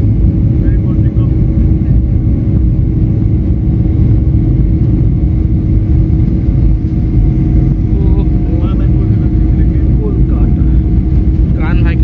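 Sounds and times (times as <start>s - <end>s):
jet engines at takeoff power: 0.0s - 12.0s
wheels rumbling on runway: 0.0s - 12.0s.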